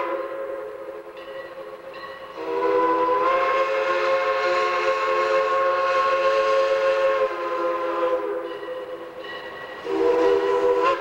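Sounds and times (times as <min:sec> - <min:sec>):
steam locomotive whistle blast: 0:00.0 - 0:01.2, 0:01.9 - 0:11.0.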